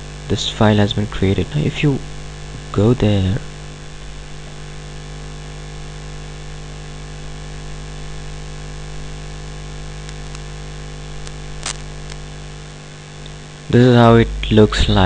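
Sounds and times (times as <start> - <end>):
recording hiss: 0.0 - 5.3, 7.2 - 15.0
electrical mains hum: 0.0 - 15.0.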